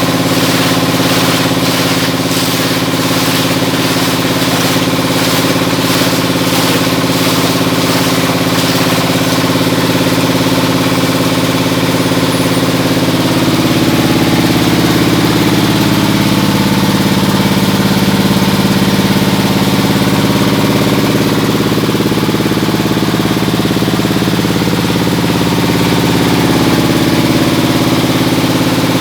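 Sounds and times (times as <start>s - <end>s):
metal shredder machine droning: 0.0s - 29.0s.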